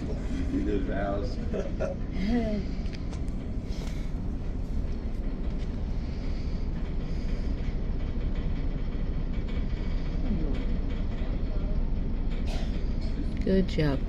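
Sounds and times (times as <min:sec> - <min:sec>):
ship engine low rumble: 0:00.0 - 0:14.0.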